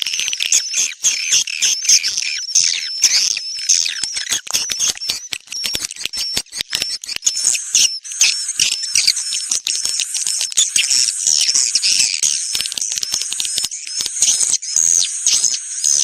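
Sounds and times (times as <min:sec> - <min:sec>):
swiftlets twittering: 0:00.0 - 0:16.0.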